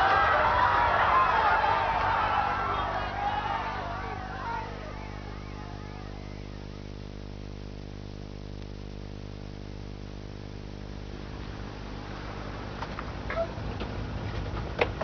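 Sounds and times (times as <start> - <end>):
low steady hum: 0.0 - 14.5.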